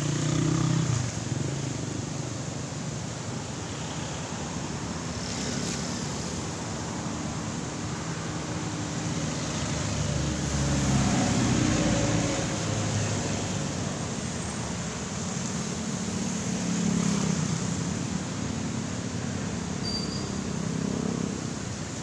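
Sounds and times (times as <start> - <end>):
cars passing: 0.0 - 22.0
motorcycles passing: 0.0 - 22.0.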